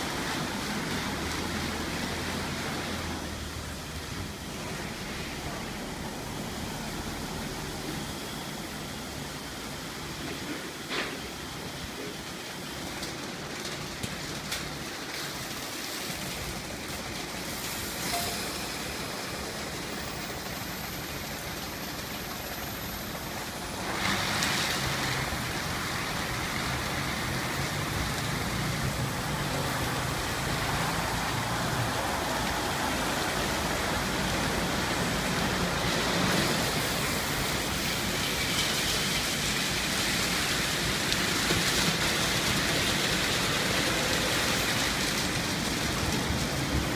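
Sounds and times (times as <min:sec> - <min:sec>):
car wash brushes and water spray: 0:00.0 - 0:46.9.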